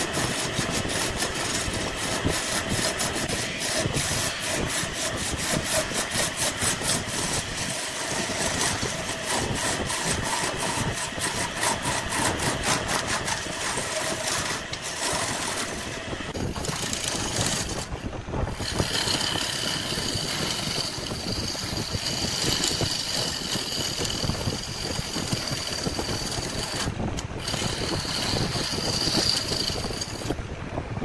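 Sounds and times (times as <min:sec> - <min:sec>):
wood lathe running: 0:00.0 - 0:30.4.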